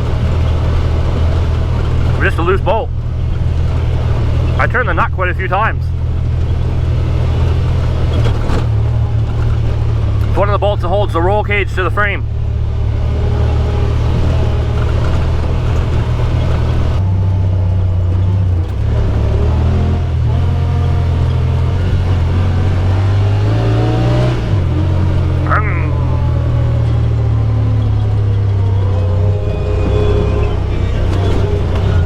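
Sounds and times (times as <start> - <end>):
vehicle engine humming: 0.0 - 32.0.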